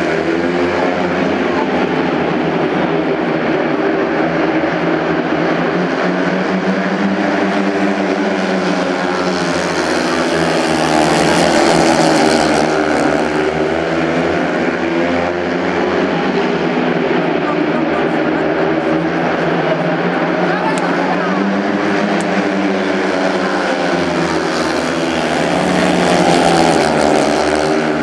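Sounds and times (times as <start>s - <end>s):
motorbike engines racing: 0.0s - 28.0s.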